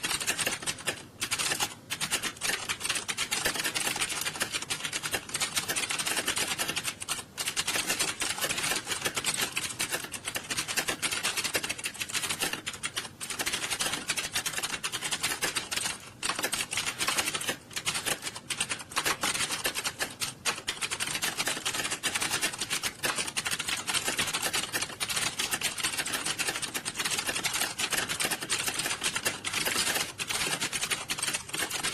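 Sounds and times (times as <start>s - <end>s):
many keyboards typing fast: 0.0s - 31.9s.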